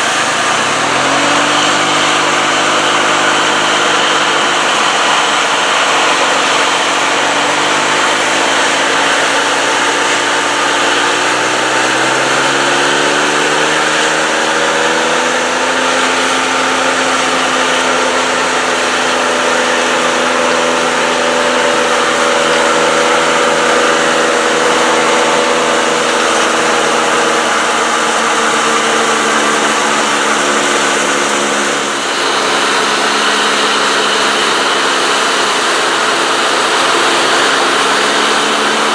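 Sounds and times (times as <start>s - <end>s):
diesel engine running: 0.0s - 38.9s
machinery whirring: 0.0s - 38.9s.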